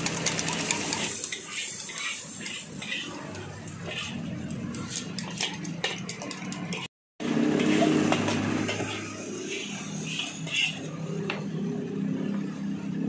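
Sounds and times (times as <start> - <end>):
metal spatula scraping wok: 0.1 - 11.7.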